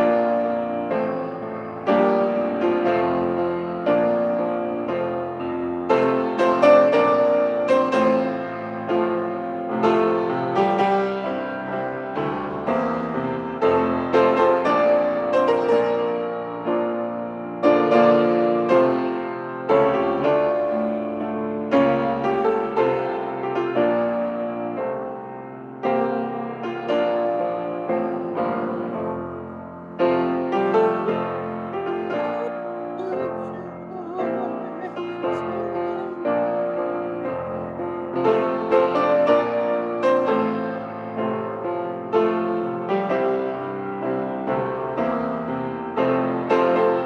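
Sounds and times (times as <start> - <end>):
solo piano playing a hymn: 0.0 - 47.0.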